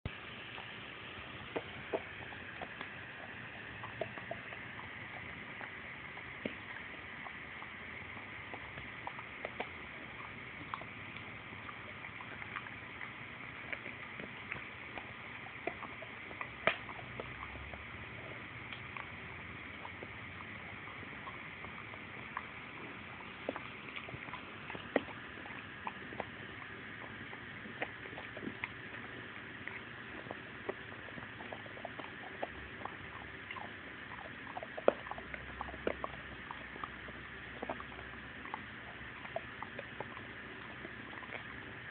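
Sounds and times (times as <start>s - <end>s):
dog teeth clicking while gnawing: 1.5s - 41.9s.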